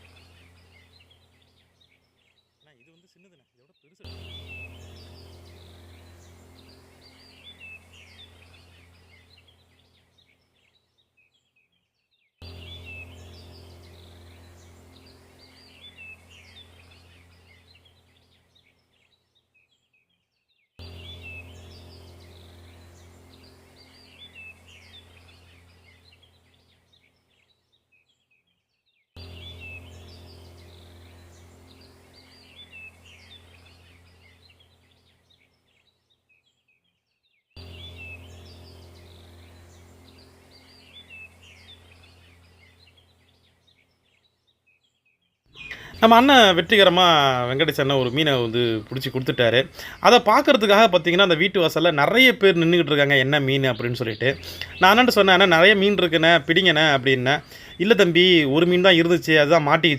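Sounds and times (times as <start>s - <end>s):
low steady hum: 0.0s - 2.7s, 4.0s - 11.3s, 12.4s - 19.3s, 20.8s - 27.6s, 29.2s - 36.0s, 37.6s - 44.5s, 45.5s - 59.9s
high bird chirps: 0.0s - 59.6s.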